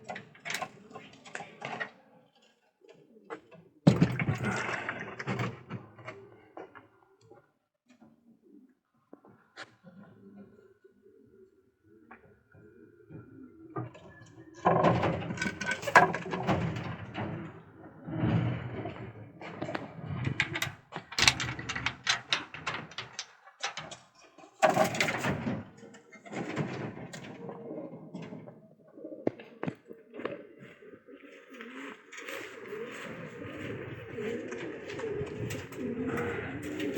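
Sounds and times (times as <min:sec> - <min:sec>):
pigeons cooing: 0:00.0 - 0:24.0, 0:24.6 - 0:36.9.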